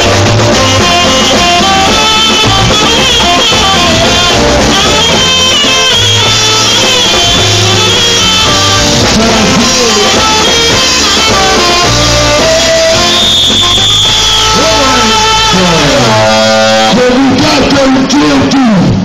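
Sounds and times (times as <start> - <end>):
saxophone melody: 0.0 - 17.2
bass line: 0.0 - 19.0
drums: 0.0 - 19.0.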